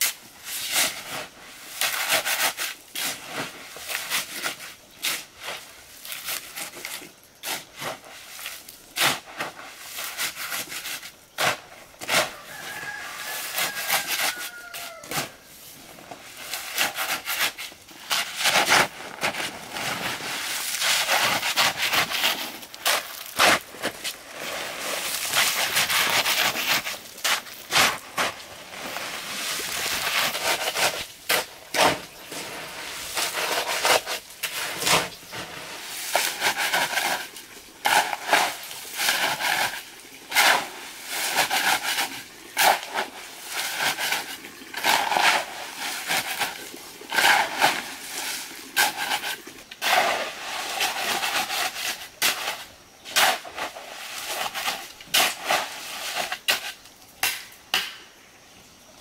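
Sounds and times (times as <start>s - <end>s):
shovel scraping into gravel: 0.0s - 56.8s.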